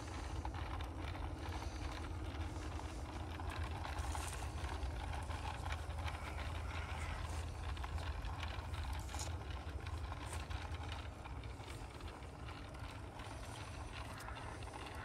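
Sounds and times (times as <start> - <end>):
model train wheels rattling on rails: 0.0 - 15.0
sharp clicks of wheels: 0.0 - 15.0
steady low rumble: 0.0 - 15.0.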